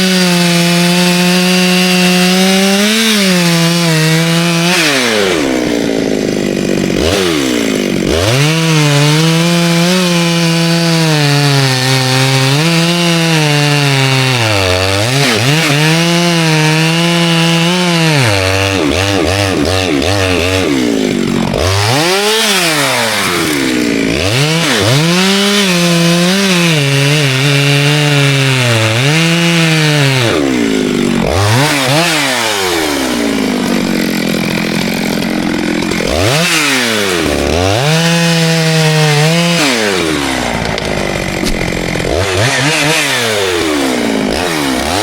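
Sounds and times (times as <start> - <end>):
chainsaw revving and cutting wood: 0.0 - 45.0.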